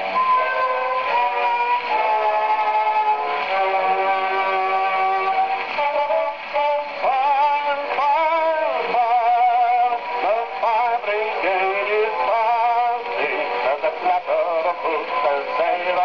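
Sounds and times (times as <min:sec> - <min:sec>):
man singing on old record: 0:01.8 - 0:16.0.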